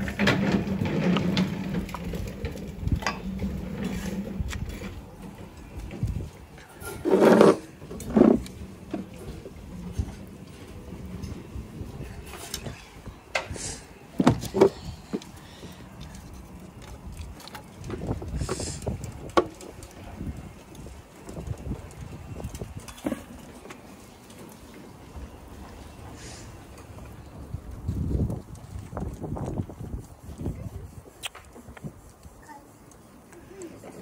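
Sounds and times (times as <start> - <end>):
wind buffeting microphone: 0.0 - 6.7, 7.7 - 32.6.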